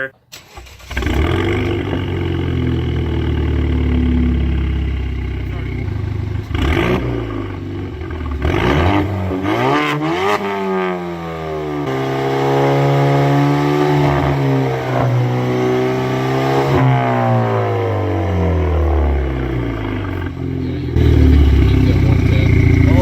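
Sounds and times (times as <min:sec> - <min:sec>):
turbocharged car engine revving: 0:00.4 - 0:23.0.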